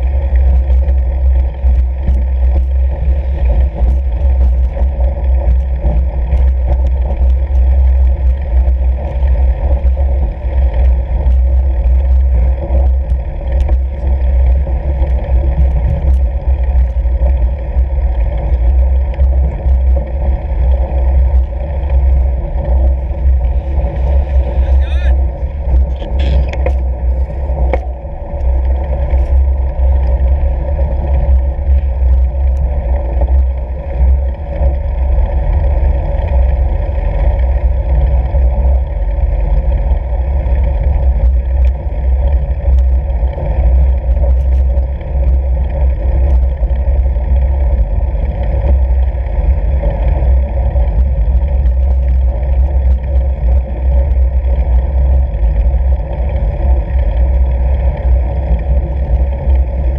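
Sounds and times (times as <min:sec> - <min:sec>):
bike rolling over snow: 0:00.0 - 0:59.9
wind rumble on microphone: 0:00.0 - 0:59.9.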